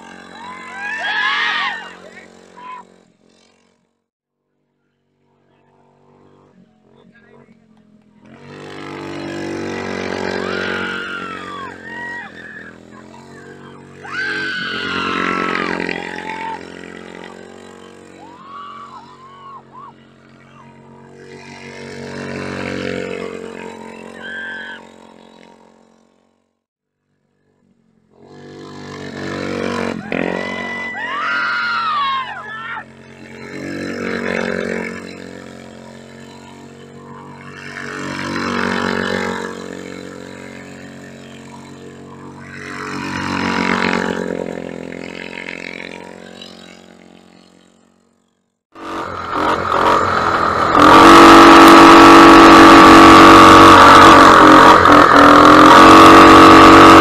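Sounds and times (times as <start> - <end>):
single-cylinder engine revving: 0.0 - 4.0, 5.4 - 26.4, 28.0 - 57.0.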